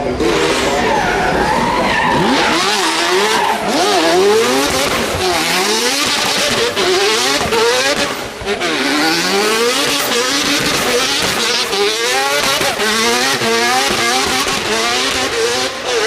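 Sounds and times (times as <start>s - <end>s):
racing car engine revving: 0.0s - 16.0s
tyres skidding: 0.0s - 16.0s.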